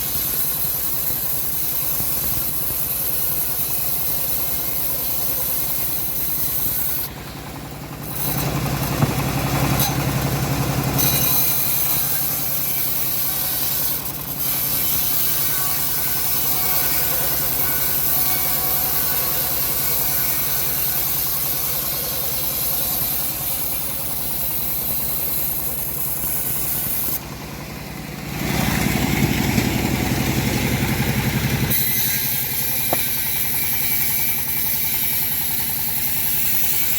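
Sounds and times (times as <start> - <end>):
bandsaw mill engine running: 0.0 - 36.9.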